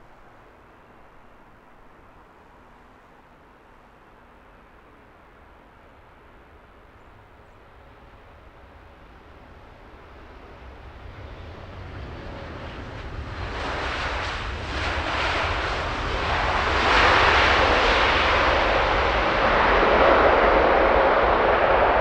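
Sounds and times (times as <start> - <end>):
jet airliner engine noise: 0.0 - 22.0.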